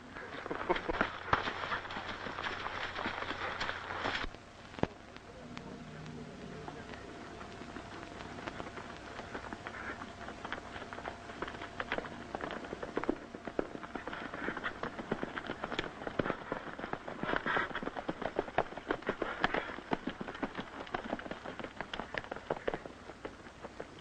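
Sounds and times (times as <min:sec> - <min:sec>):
horses galloping: 0:00.0 - 0:24.0.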